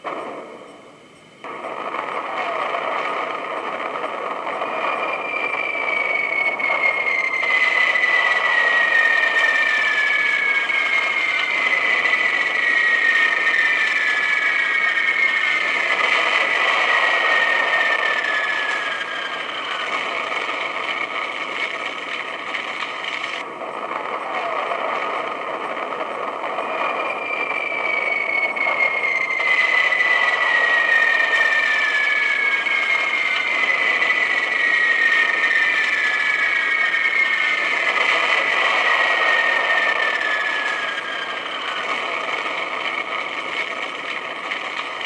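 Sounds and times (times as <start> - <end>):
steady steam hiss: 0.0 - 45.0.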